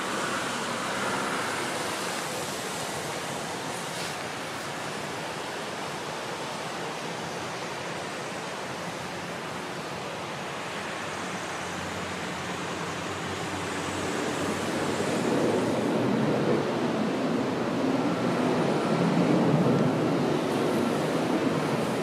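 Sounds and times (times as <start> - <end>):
jet airliner engine rush: 0.0 - 22.0.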